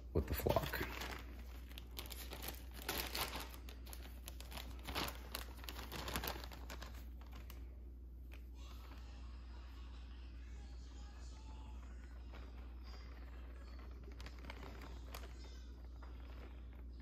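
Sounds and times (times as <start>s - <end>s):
plastic bag crinkling: 0.1s - 9.3s, 11.1s - 17.0s.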